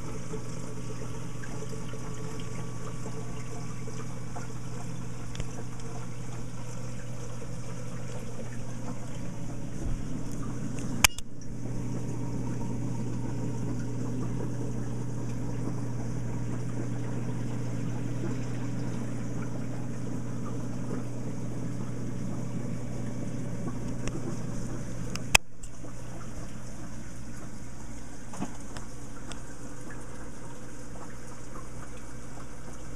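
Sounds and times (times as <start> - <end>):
low pump hum: 0.0 - 32.9
water trickling and splashing: 0.0 - 32.9.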